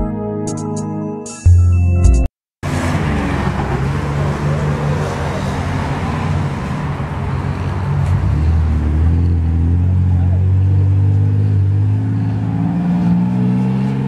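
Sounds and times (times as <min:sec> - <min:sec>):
tyre noise on road: 0:02.6 - 0:14.0
vehicle engine hum: 0:02.6 - 0:14.0
vehicle engines running: 0:02.6 - 0:14.0.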